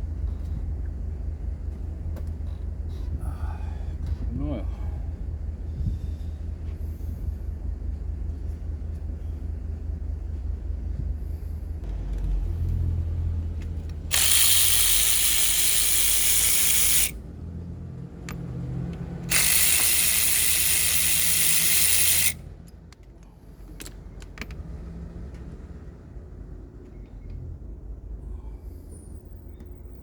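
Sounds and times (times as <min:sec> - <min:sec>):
low steady hum: 0:00.0 - 0:24.5.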